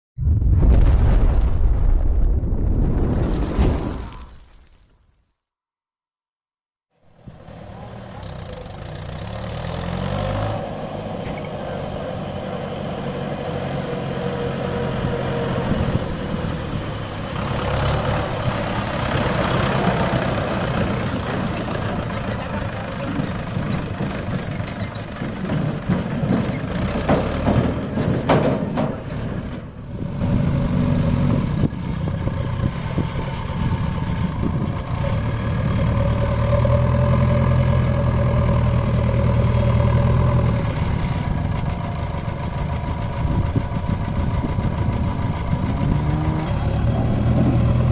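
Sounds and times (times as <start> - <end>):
tractor diesel engine running: 7.0 - 47.9
engine knocks and rattles: 7.1 - 47.9.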